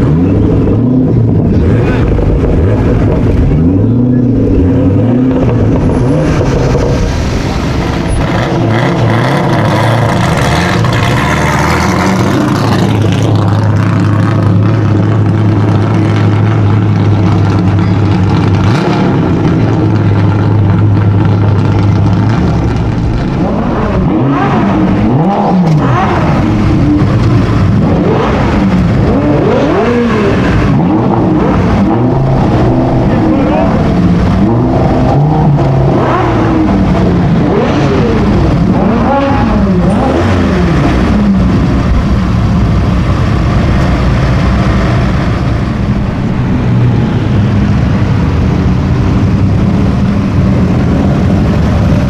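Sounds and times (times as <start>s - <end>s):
low engine drone: 0.0s - 52.0s
sports car engines revving: 0.0s - 52.0s.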